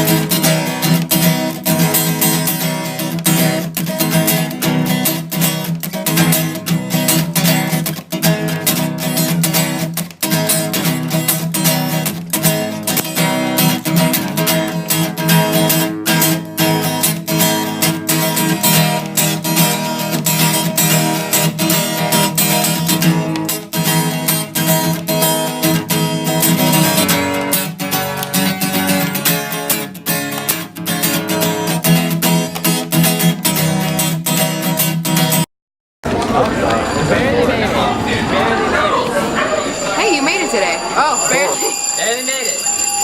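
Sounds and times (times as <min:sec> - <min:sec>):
strummed acoustic guitar: 0:00.0 - 0:35.4, 0:36.0 - 0:43.0.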